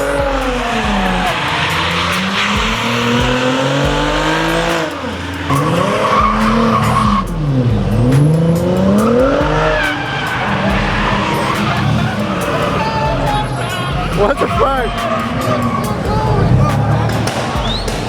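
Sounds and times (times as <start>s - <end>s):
car engine revving: 0.0s - 18.0s
tyres squealing: 0.0s - 18.0s.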